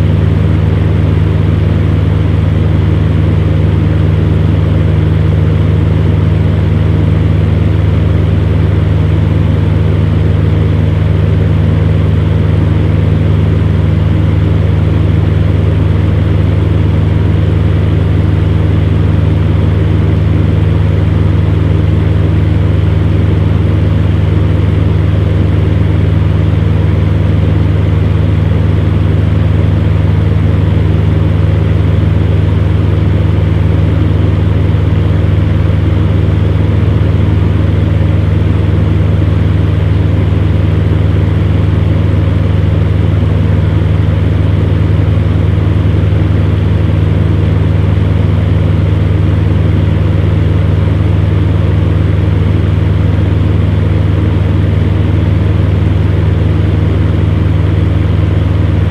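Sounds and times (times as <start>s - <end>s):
fan heater motor hum: 0.0s - 58.9s.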